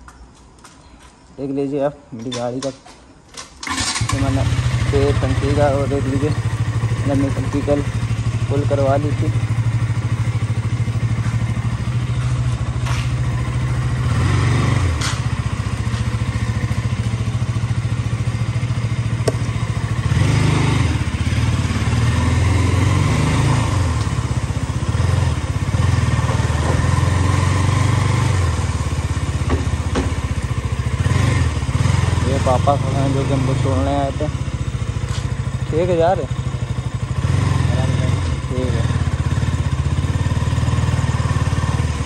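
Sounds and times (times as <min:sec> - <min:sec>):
motorcycle engine revving: 0:03.6 - 0:42.0.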